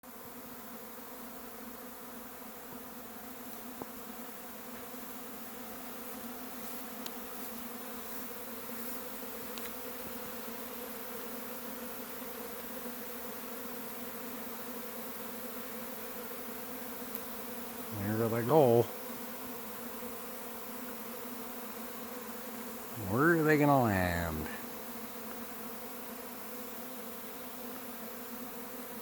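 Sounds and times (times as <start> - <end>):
bee swarm buzzing: 0.1 - 29.0.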